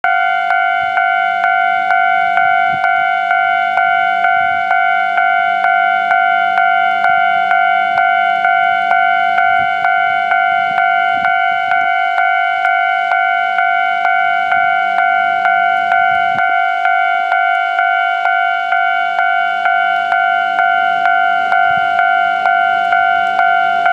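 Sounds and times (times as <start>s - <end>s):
level crossing warning bell: 0.0s - 23.9s.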